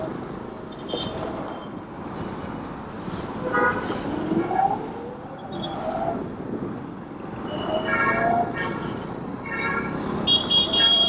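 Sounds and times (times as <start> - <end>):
road and engine noise: 0.0 - 11.0.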